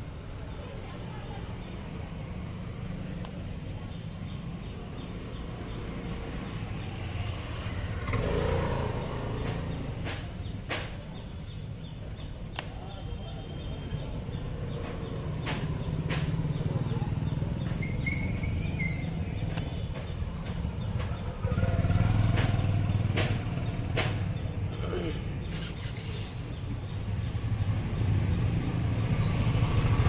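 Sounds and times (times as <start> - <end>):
vehicles passing rumble: 0.0 - 30.0.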